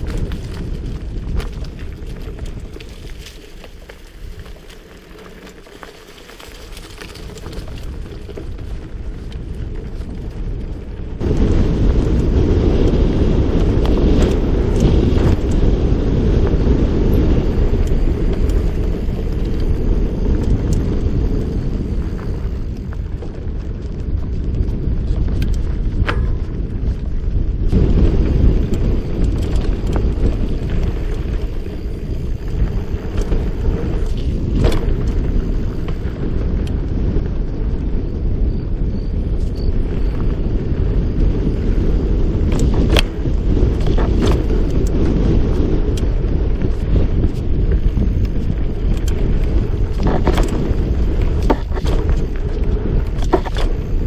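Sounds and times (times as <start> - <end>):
bike clicking and rattling: 0.0 - 54.0
tyres rolling on dirt: 0.0 - 54.0
wind buffeting microphone: 0.0 - 54.0.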